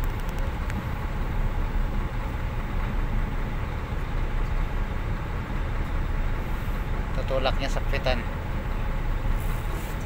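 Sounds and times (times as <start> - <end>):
diesel engines rumbling: 0.0 - 10.0.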